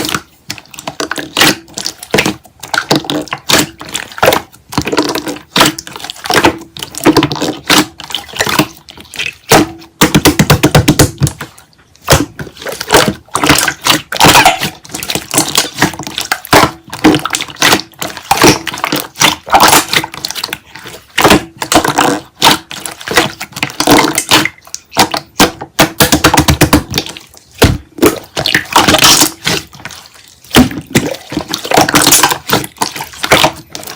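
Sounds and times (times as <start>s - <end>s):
slime squelching: 0.0s - 33.9s.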